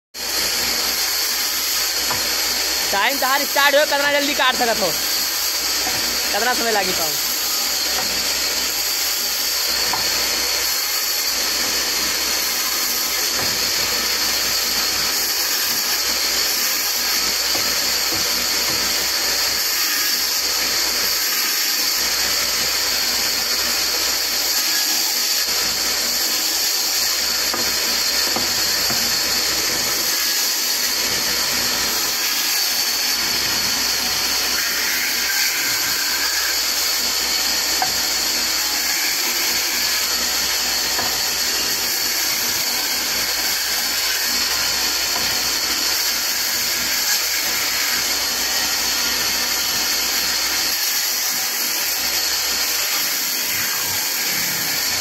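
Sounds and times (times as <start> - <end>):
band saw cutting wood: 0.2 - 55.0.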